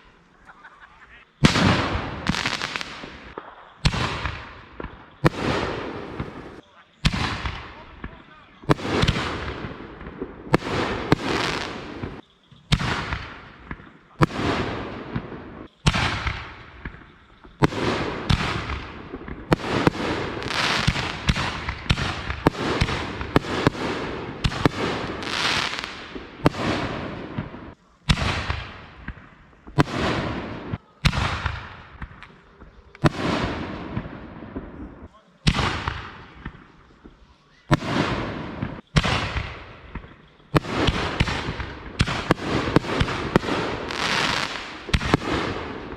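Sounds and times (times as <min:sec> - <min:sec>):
fireworks bangs and crackle: 0:01.3 - 0:45.9.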